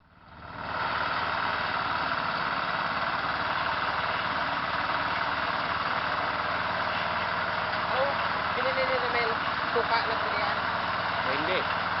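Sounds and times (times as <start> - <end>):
engine running with low pulsing: 0.0 - 12.0.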